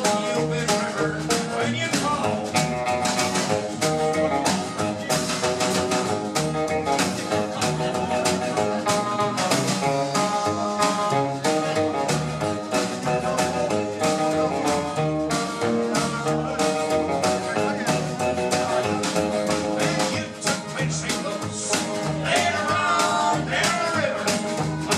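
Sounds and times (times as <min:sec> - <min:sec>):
guitar with held notes: 0:00.0 - 0:24.9
steady drum beat: 0:00.0 - 0:24.9.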